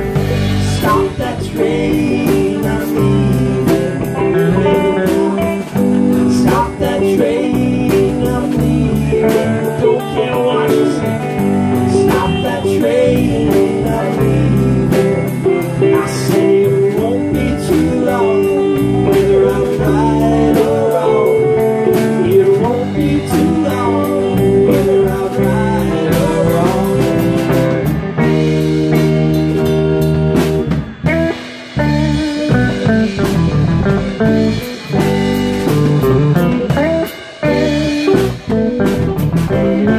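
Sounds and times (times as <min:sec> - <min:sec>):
live bluesy rock band: 0:00.0 - 0:39.9.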